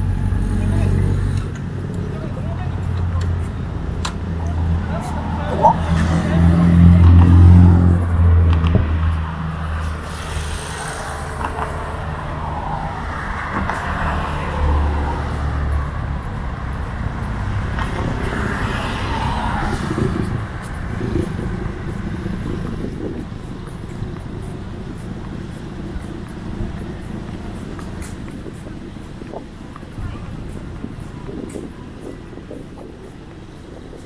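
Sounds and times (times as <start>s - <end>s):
street noise: 0.0s - 34.0s
vehicle engine rumbling: 0.0s - 34.0s.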